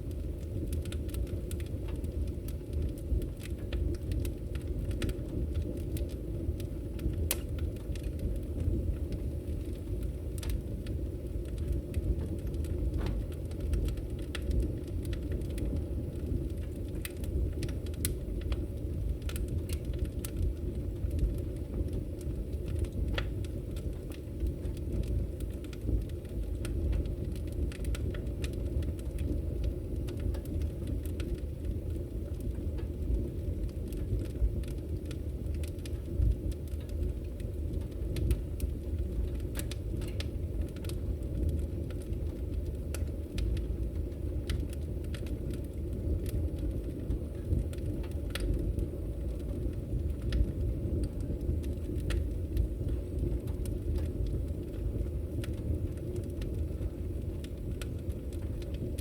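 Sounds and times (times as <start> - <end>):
low rumble of burning: 0.0 - 59.0
wood fire popping and snapping: 0.0 - 59.0.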